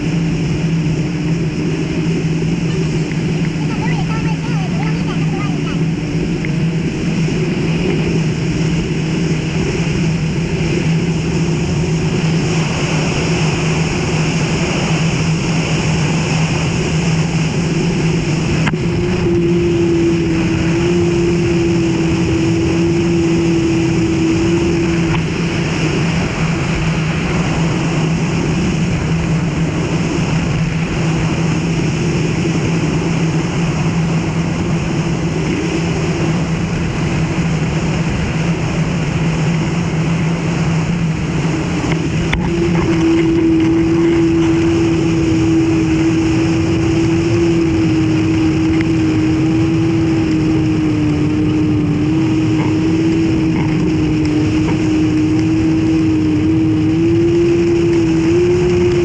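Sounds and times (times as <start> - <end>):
water rushing past hull: 0.0 - 59.0
watercraft engine hum: 0.0 - 59.0.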